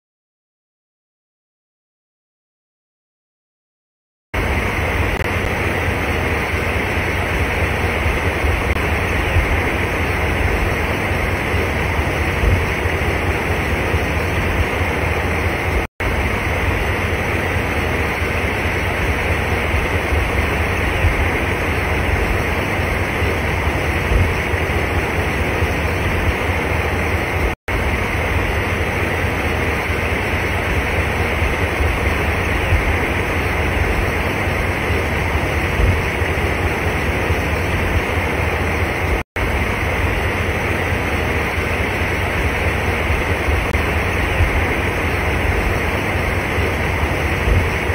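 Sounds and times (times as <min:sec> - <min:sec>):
floodwater rushing over road: 0:04.4 - 0:47.9.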